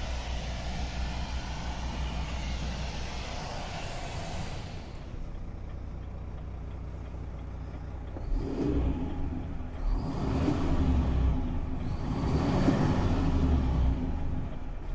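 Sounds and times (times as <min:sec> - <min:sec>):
diesel engine idling and revving: 0:00.0 - 0:14.9.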